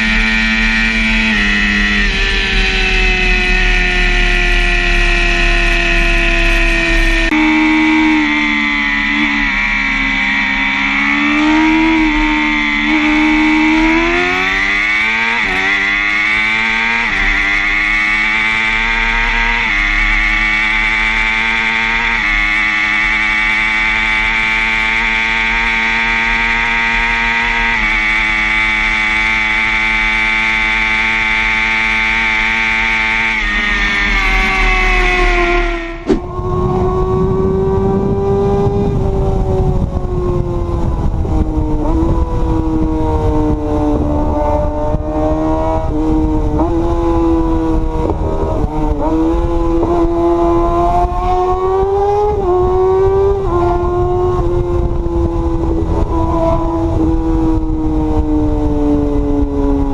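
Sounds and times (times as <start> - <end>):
sportbike engine accelerating: 0.0 - 59.9.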